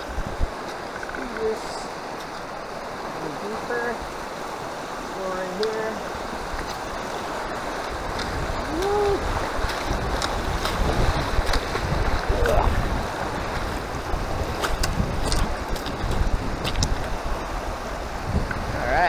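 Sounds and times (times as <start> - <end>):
creek water rushing: 0.0 - 19.0
wind buffeting microphone: 0.0 - 19.0.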